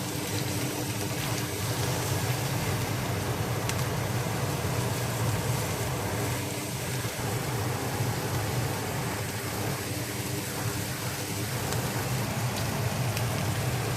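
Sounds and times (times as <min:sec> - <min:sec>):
food sizzling in a pan: 0:00.0 - 0:13.9.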